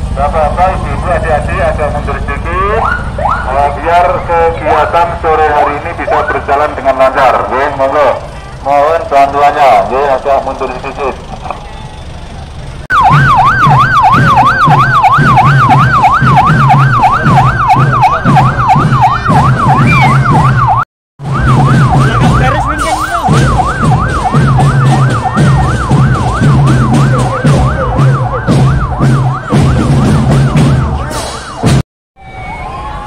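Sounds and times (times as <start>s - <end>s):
police siren yelping: 0.4s - 33.0s.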